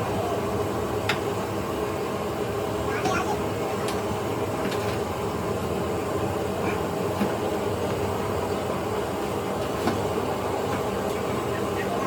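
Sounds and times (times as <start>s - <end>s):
mechanical rumble and hum: 0.0s - 12.0s.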